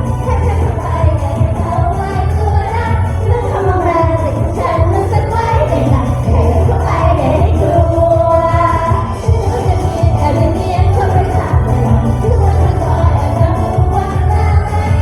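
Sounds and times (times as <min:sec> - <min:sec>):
pop song with heavy bass beat: 0:00.0 - 0:15.0
sung vocals: 0:00.0 - 0:15.0.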